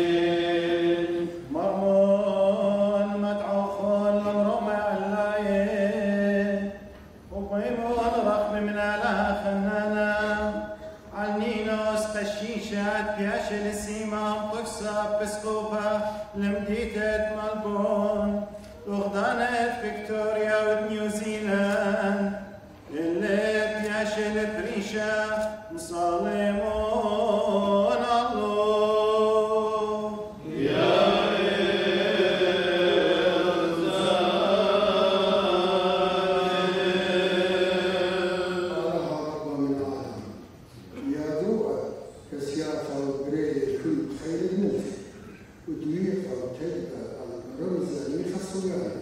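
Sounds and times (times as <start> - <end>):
men chanting a prayer: 0.0 - 40.4, 45.7 - 49.0.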